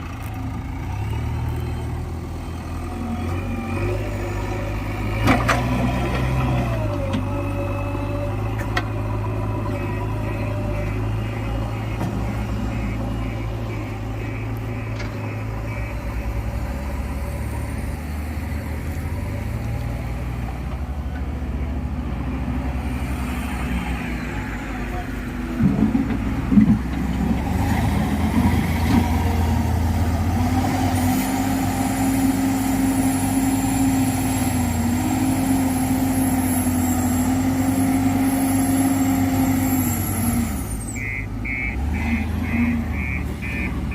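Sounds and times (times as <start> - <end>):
backhoe diesel engine working: 0.0 - 43.9.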